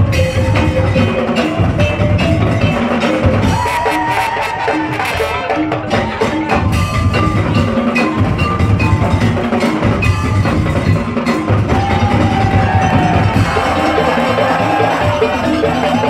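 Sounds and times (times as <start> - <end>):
deep drum beats: 0.0 - 16.0.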